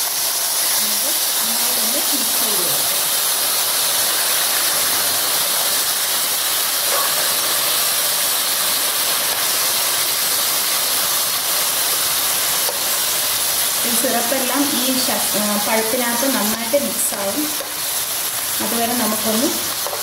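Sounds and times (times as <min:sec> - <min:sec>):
syrup sizzling in hot ghee: 0:00.0 - 0:20.0.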